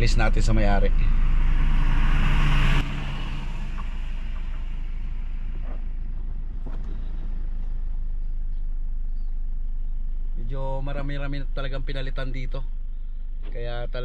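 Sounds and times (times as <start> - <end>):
diesel engine and road noise: 0.0 - 14.0.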